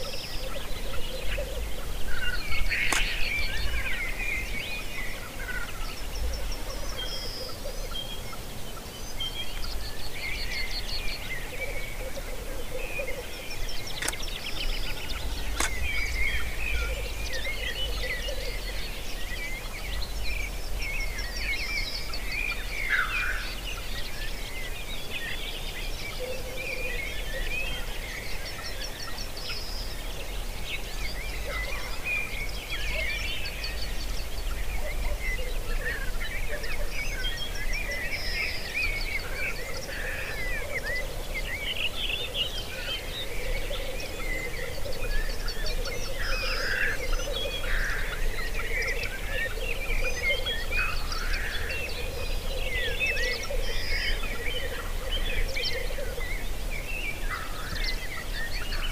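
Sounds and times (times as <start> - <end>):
birds chirping and whistling: 0.0 - 12.2, 12.8 - 58.9.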